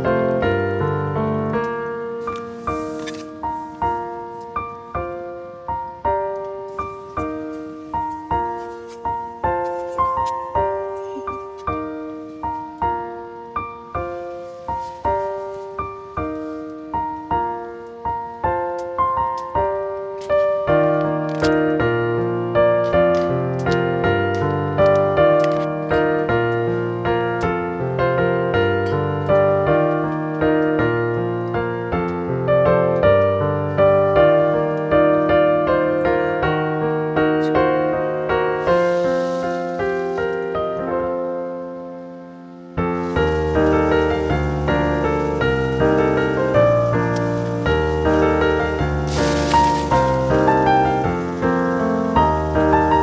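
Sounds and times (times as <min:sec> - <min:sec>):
gentle piano melody: 0:00.0 - 0:53.0.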